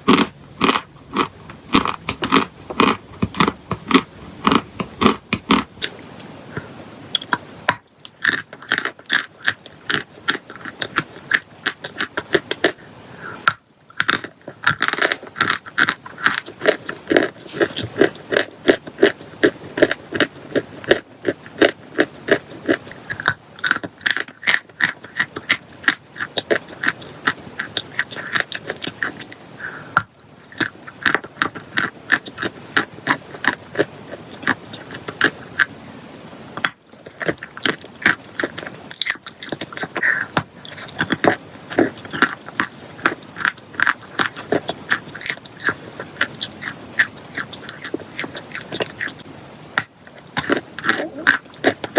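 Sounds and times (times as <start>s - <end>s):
chalk being chewed crunching: 0.0s - 51.9s.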